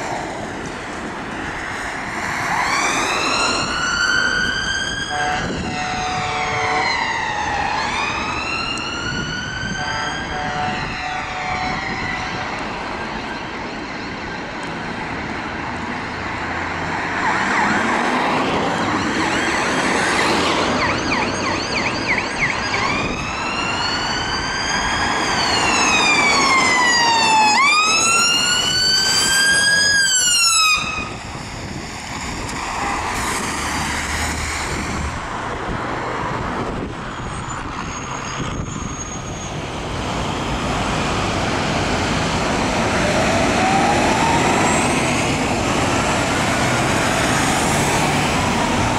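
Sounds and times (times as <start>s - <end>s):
fire engine siren yelping and wailing: 0.0s - 48.9s
road traffic noise: 0.0s - 48.9s.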